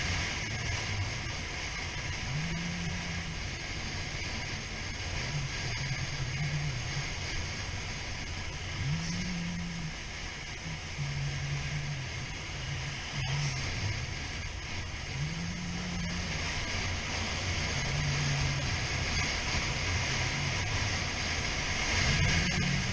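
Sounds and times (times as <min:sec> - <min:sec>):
motorcycle engine revving: 0:00.0 - 0:22.9
road and wind noise: 0:00.0 - 0:22.9.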